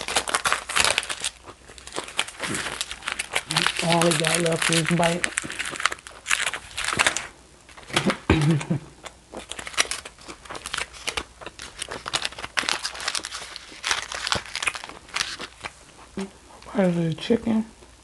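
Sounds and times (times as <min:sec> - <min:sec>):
aluminium foil crinkling: 0:00.0 - 0:15.8.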